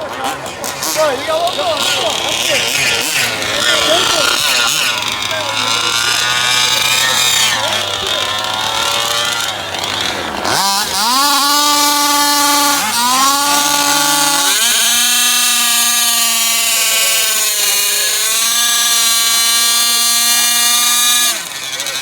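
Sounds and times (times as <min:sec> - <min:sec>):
small two-stroke engine revving: 0:00.0 - 0:22.0.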